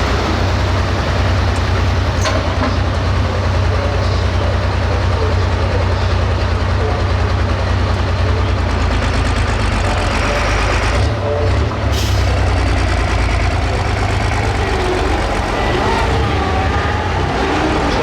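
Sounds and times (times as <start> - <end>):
heavy diesel tractor engine: 0.0 - 18.0.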